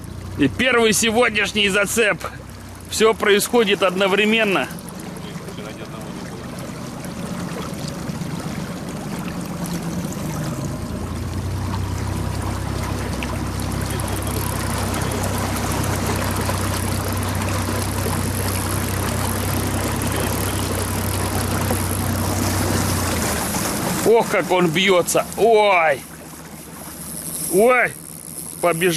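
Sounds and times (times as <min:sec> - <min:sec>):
outboard motor running: 0:00.0 - 0:28.9
water rushing along hull: 0:00.0 - 0:28.9.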